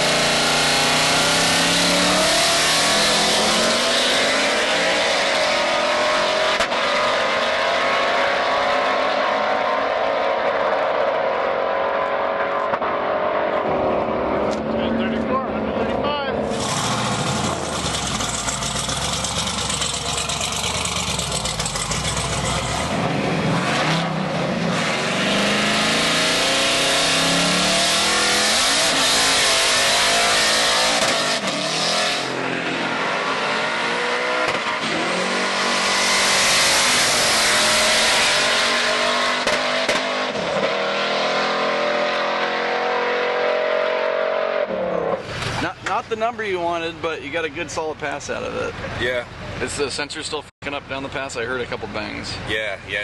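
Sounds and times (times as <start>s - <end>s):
car engine at full throttle: 0.0s - 46.1s.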